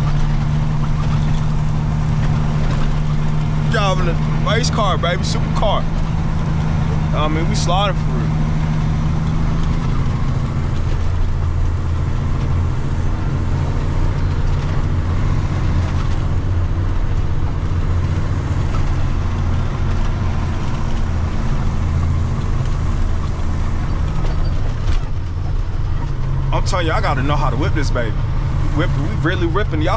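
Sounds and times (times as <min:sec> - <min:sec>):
diesel truck engine running: 0:00.0 - 0:29.9
road noise: 0:00.0 - 0:29.9.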